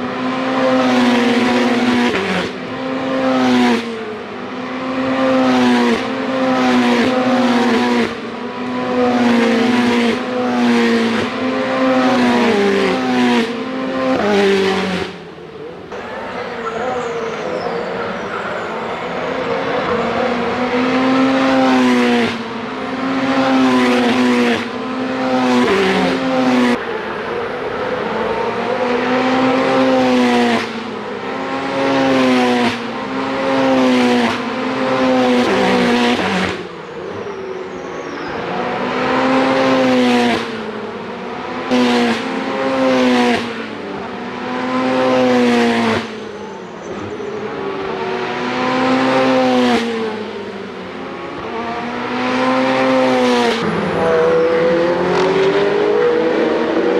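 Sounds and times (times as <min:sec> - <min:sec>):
race car engines accelerating: 0:00.0 - 0:56.9.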